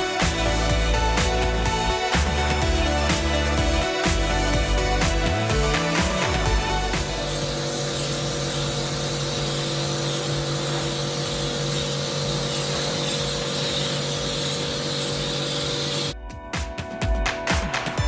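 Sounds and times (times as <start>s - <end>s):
electric spray pump humming: 0.0s - 16.2s.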